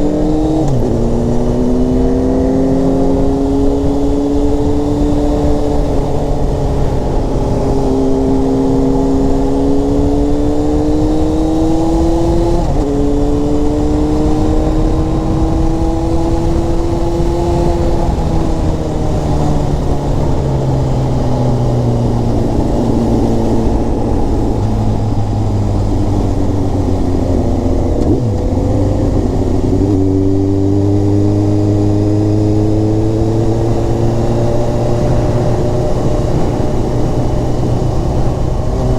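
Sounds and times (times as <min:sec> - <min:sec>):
sportbike engine accelerating: 0:00.0 - 0:38.9
wind rush: 0:00.0 - 0:38.9.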